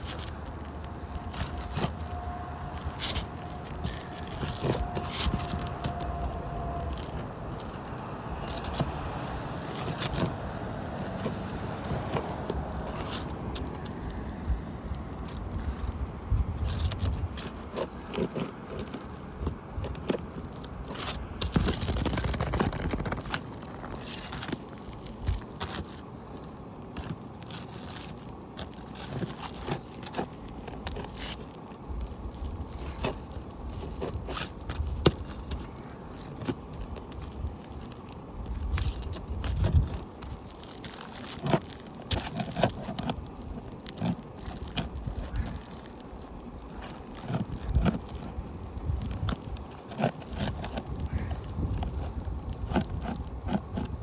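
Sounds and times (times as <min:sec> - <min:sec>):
tools scraping under roof shingles: 0:00.0 - 0:54.0.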